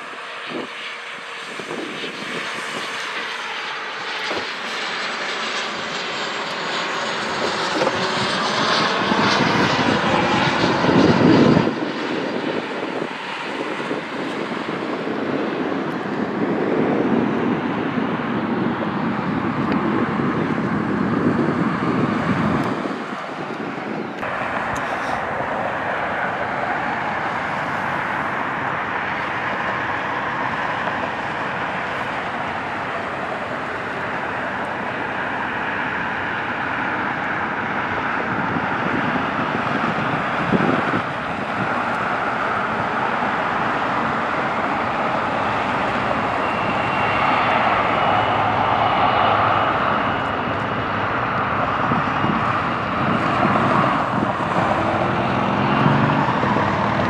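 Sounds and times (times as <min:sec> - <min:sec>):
high-pitched whine: 0:00.0 - 0:57.0
jet engines rushing: 0:00.0 - 0:57.0.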